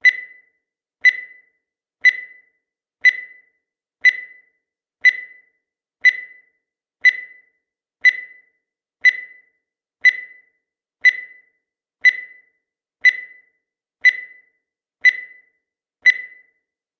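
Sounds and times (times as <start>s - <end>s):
timer ticking: 0.0s - 16.6s.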